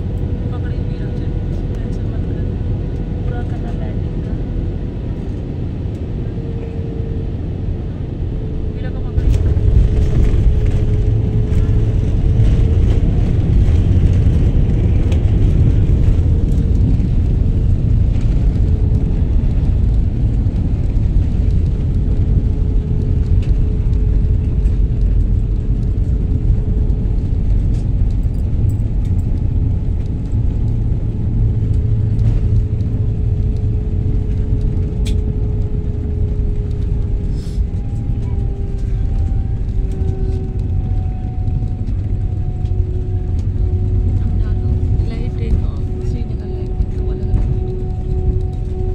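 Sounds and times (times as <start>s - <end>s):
airplane engine hum: 0.0s - 48.9s
low rumble of plane wheels: 0.0s - 48.9s.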